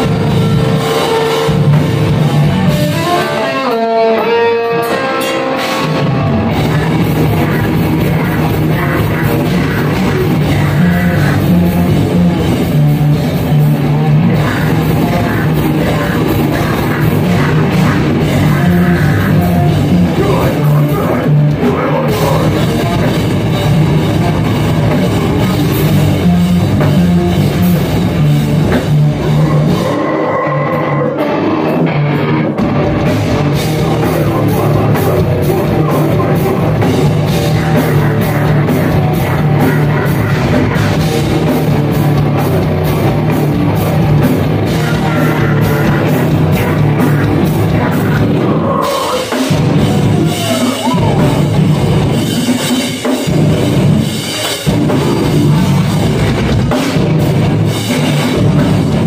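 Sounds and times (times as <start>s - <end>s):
heavy metal band playing: 0.0s - 59.0s.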